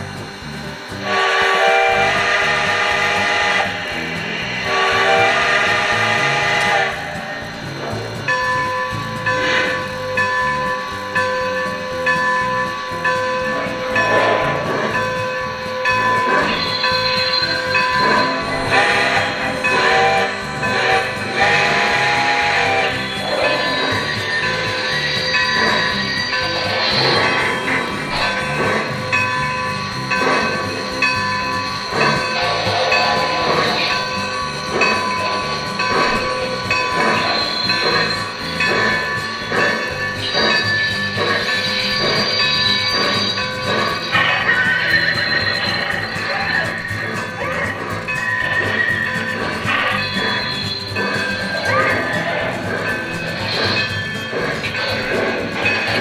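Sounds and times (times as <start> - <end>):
background music with held notes: 0.0 - 56.0
soft rhythmic pulses: 0.0 - 56.0
steam hissing: 0.0 - 56.0
steam puffs: 0.0 - 56.0.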